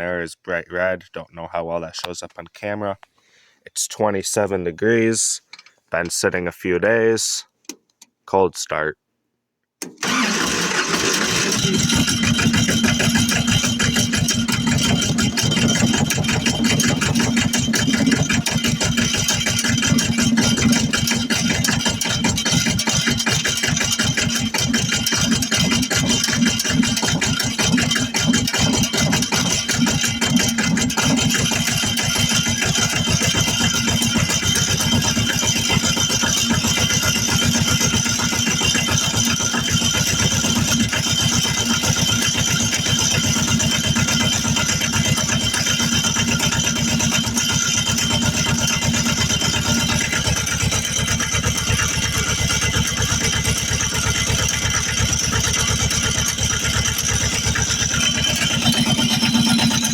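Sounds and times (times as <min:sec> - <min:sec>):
diesel tractor engine idling: 0:10.0 - 0:59.9.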